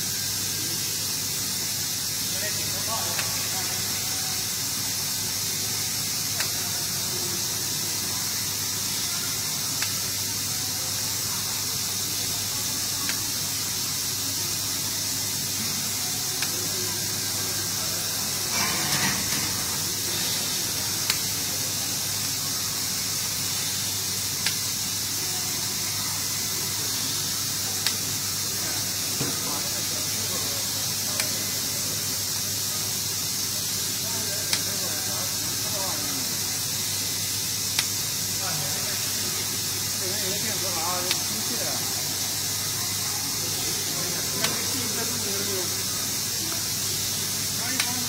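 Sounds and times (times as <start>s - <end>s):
arc welding hiss: 0.0s - 48.0s.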